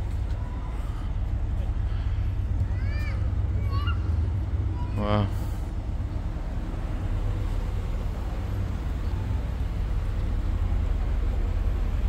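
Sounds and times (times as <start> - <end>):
low rumble of street traffic: 0.0 - 12.0.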